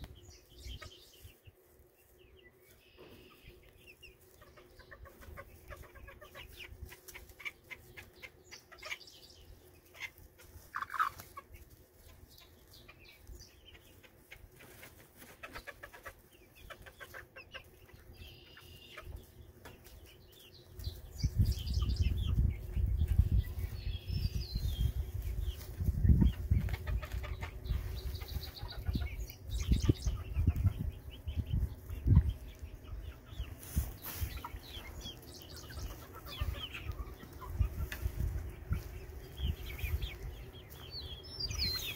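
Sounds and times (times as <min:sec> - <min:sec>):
chickens clucking softly: 0:00.0 - 0:41.9.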